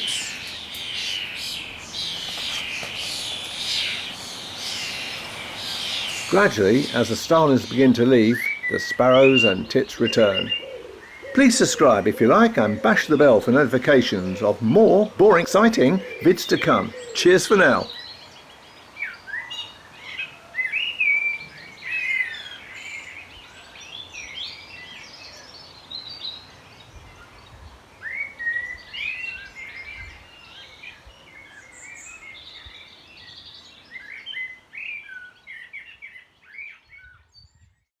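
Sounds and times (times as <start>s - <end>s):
garden birds chirping: 0.0s - 37.7s.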